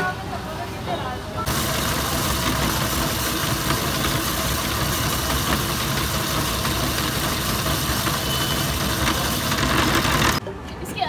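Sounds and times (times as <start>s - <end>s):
ice shaving machine grinding: 1.5s - 10.4s.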